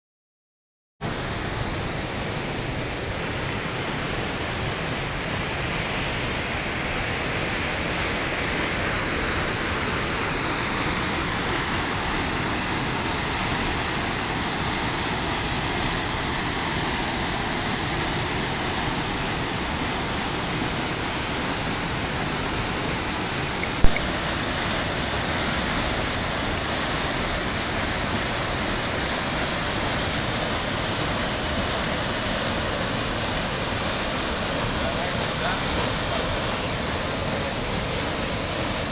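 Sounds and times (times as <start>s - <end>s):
waterfall rushing: 1.0s - 38.9s.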